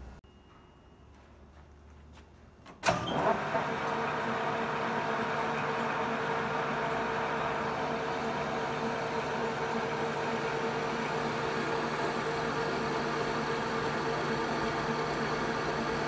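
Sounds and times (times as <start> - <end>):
lathe running with mechanical hum: 3.1 - 16.0.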